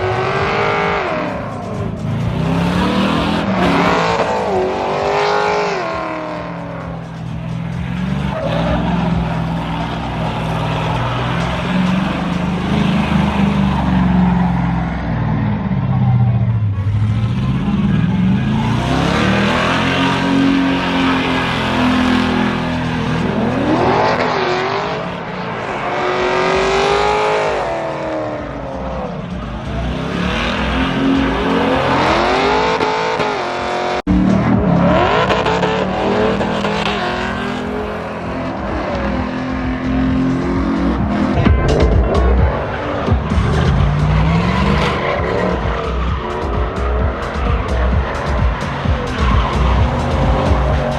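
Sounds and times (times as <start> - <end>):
truck engines revving: 0.0 - 50.9.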